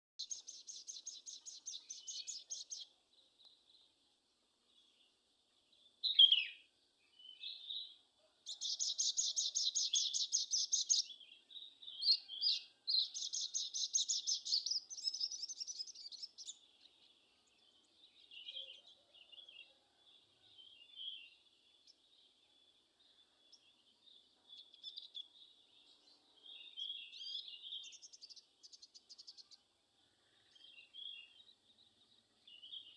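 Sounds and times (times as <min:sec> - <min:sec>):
soft bird chirps: 0:00.2 - 0:04.0, 0:04.6 - 0:32.9.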